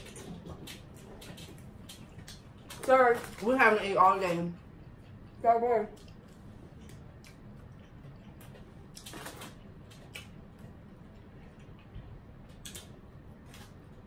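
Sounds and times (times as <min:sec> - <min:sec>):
chewing food: 0:00.0 - 0:14.0
low room hum: 0:00.0 - 0:14.0.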